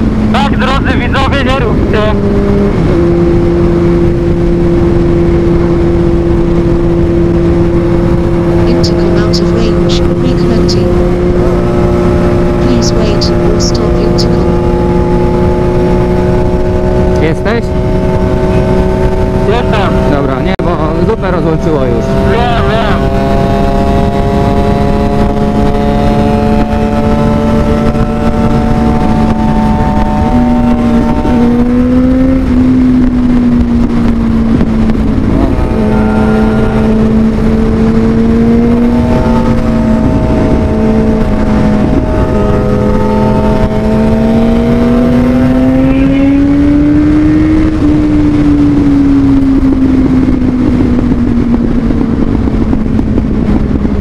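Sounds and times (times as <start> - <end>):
motorcycle engine running: 0.0 - 54.0
road noise: 0.0 - 54.0
wind noise: 0.0 - 54.0.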